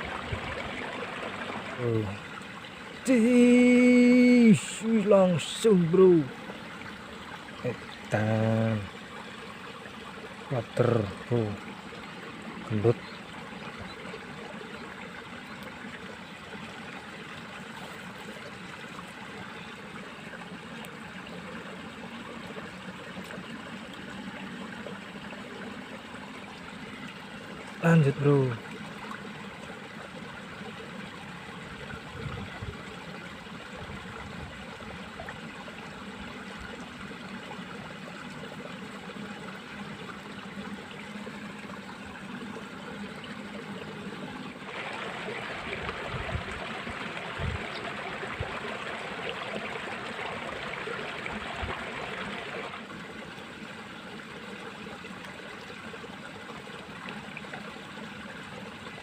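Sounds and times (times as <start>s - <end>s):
water rushing in ditch: 0.0s - 59.0s.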